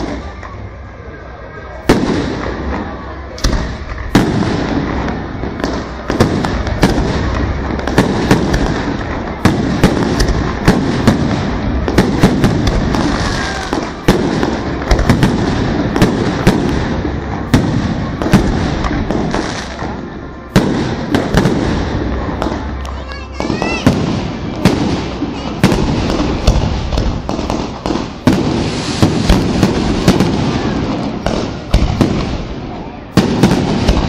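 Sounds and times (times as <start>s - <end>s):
fireworks bursting with sharp bangs: 0.0s - 34.0s.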